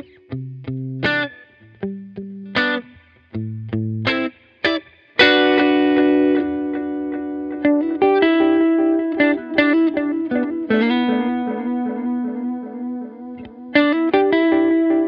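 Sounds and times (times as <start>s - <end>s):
electric guitar blues-rock playing: 0.0s - 15.0s.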